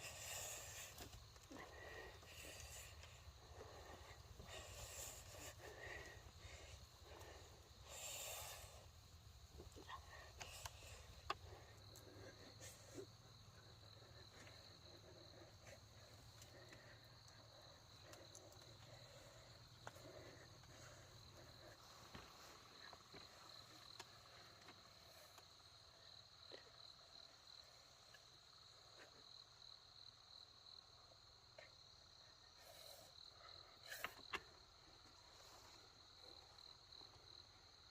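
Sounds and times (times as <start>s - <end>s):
insects chirring: 0.0s - 37.9s.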